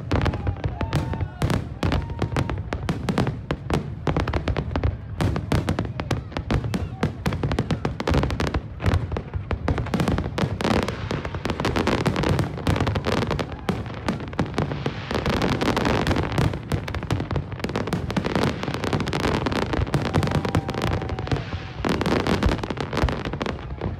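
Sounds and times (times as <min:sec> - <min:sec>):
fireworks bangs and crackling: 0:00.0 - 0:23.9.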